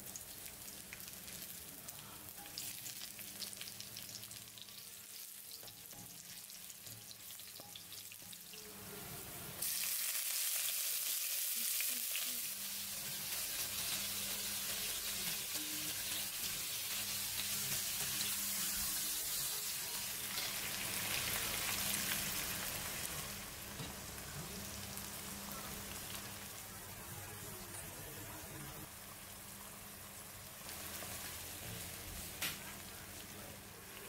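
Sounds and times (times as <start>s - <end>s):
chicken sizzling in hot oil: 0.0s - 27.8s, 28.8s - 34.0s.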